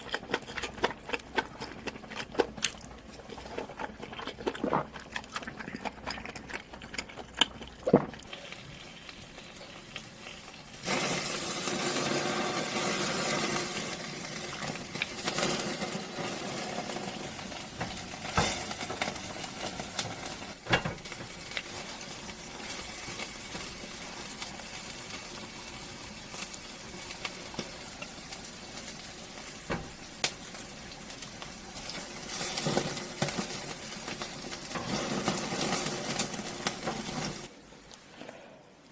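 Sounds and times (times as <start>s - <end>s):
hot food sizzling: 0.0s - 38.2s.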